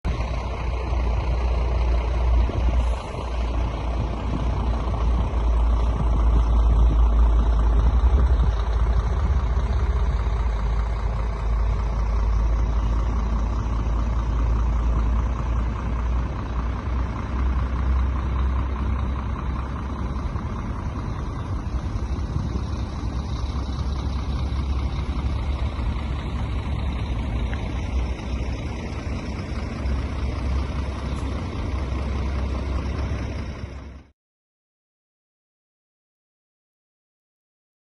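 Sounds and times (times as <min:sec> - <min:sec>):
truck engine idling: 0:00.0 - 0:34.1.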